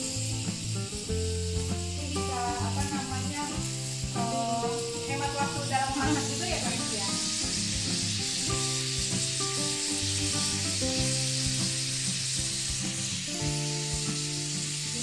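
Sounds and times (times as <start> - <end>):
meat sizzling in a pan: 0.0 - 15.0
soft background music: 0.1 - 15.0.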